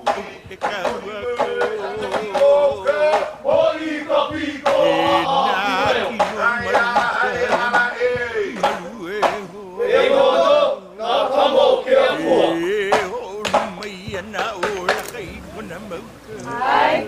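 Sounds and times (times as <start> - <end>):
sharp drum beats: 0.0 - 16.4
voices chanting: 0.0 - 17.0.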